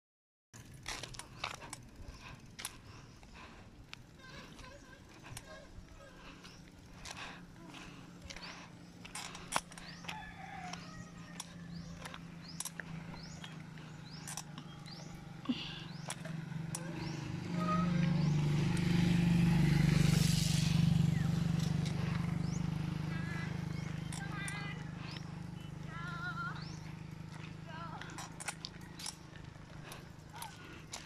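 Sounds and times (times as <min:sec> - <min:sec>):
motorcycle passing: 0:00.6 - 0:31.0.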